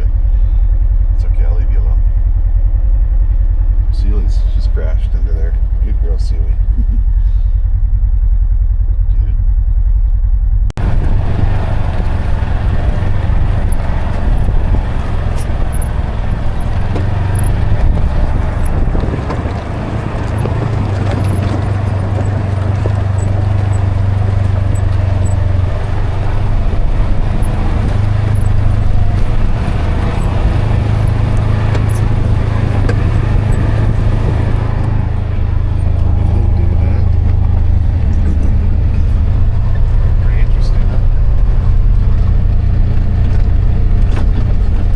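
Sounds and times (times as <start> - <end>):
utility vehicle engine droning: 0.0 - 44.9.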